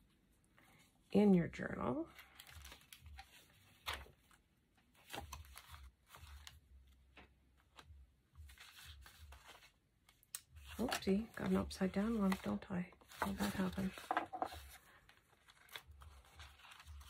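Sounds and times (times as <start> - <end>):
paper pages rustling: 2.1 - 17.0.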